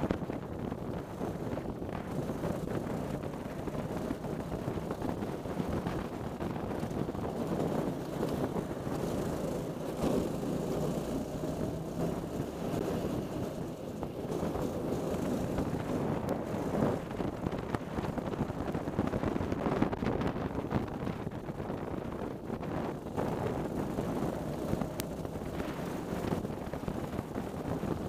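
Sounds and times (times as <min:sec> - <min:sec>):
kart engine running at speed: 0:00.0 - 0:28.0
wind buffeting microphone: 0:00.0 - 0:28.0.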